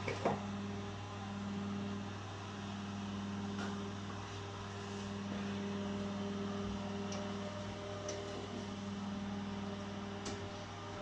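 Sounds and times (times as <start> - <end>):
incubator electric hum: 0.0 - 11.0.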